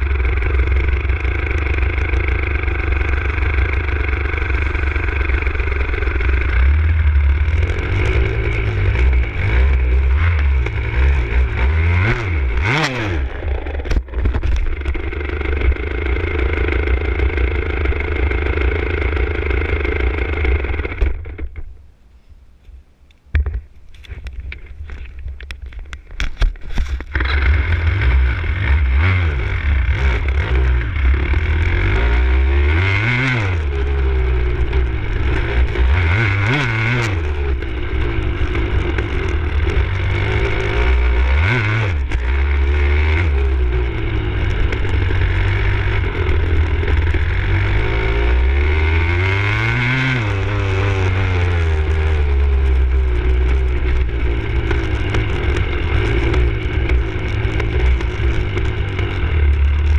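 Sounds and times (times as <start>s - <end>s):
dirt bike engine revving: 0.0s - 21.5s, 26.9s - 59.9s.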